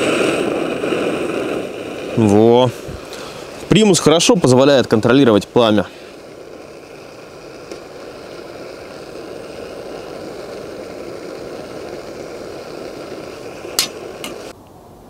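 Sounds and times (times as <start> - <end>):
pressure stove burning: 0.0 - 14.6
water boiling in a pot: 0.0 - 14.6.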